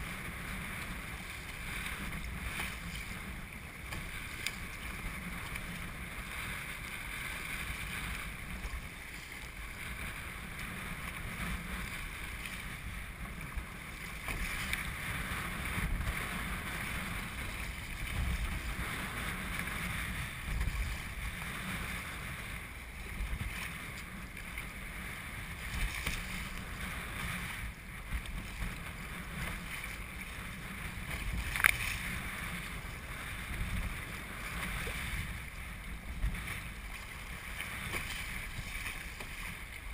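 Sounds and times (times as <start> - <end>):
water splashing against kayak hull: 0.0 - 39.9
wind buffeting microphone: 0.0 - 39.9.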